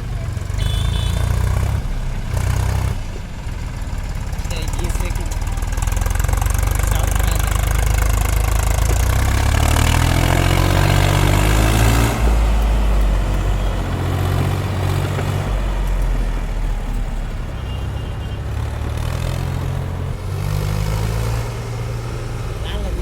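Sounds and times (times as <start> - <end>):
heavy diesel engine revving: 0.0 - 23.0.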